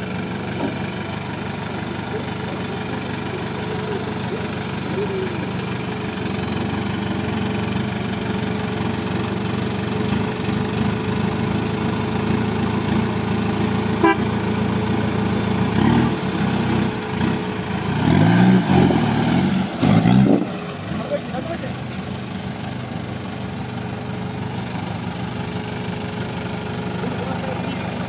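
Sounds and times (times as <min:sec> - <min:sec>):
jeep engine running at low revs: 0:00.0 - 0:28.0.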